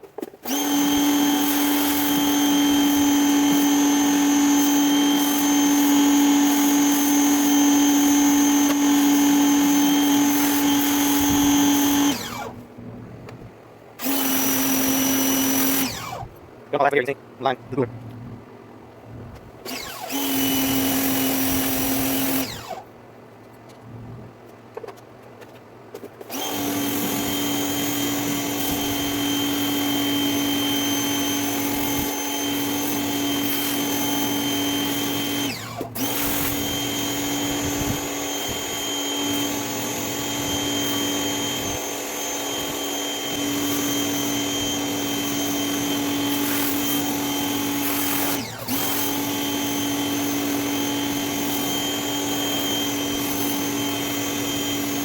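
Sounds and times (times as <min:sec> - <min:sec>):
electric pressure washer running: 0:00.4 - 0:12.6, 0:14.0 - 0:16.3, 0:19.6 - 0:22.8, 0:26.3 - 0:55.0.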